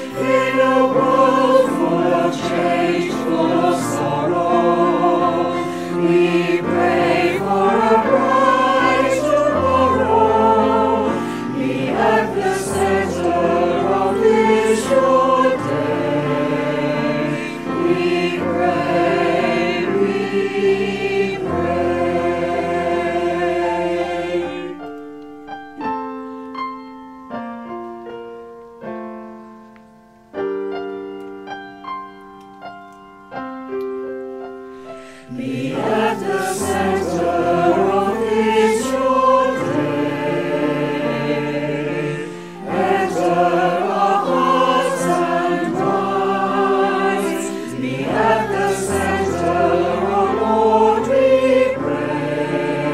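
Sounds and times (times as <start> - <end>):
choir singing hymn-like song: 0.0 - 26.0, 34.8 - 52.9
piano: 0.0 - 52.9.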